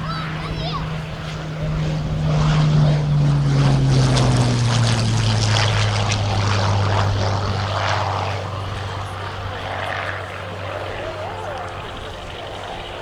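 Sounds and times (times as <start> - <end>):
propeller plane engine passing: 0.0 - 13.0.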